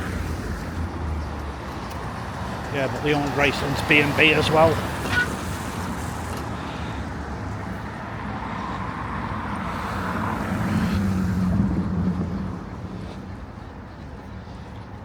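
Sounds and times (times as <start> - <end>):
background traffic: 0.0 - 15.0.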